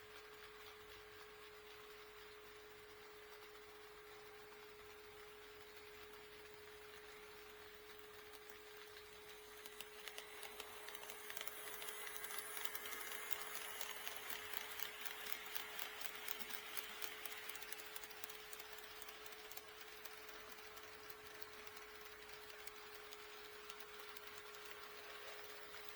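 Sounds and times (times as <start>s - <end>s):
model train wheels clicking: 0.0s - 25.9s.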